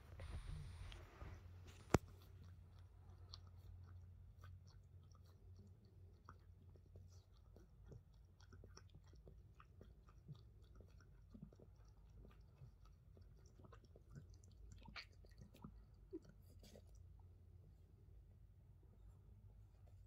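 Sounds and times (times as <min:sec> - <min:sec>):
cat lapping water: 0:00.2 - 0:17.2.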